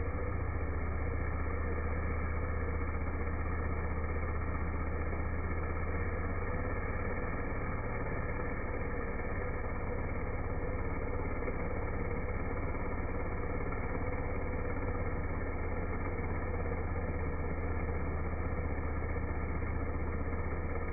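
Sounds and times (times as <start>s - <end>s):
slowed chainsaw drone: 0.0s - 20.9s.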